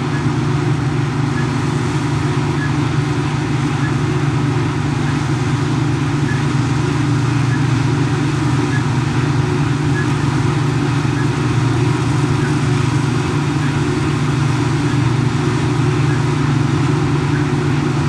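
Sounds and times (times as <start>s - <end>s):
deep engine drone: 0.0s - 18.0s.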